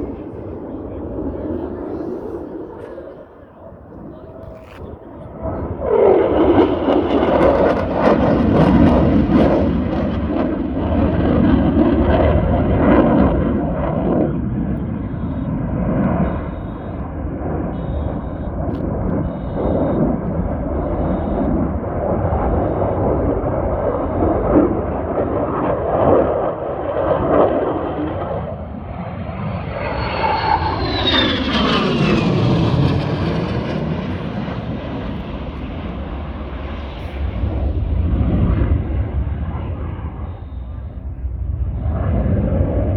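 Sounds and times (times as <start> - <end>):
fighter jet engine roaring: 0.0 - 42.9.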